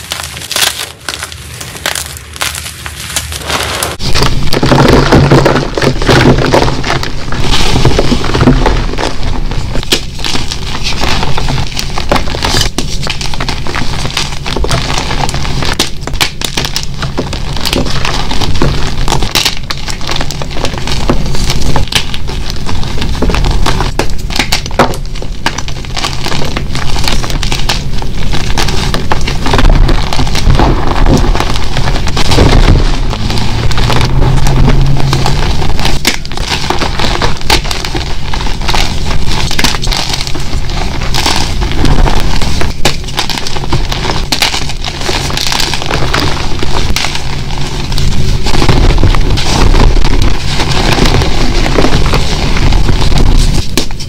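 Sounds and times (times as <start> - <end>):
chalk crunching and crackling: 0.0 - 54.0.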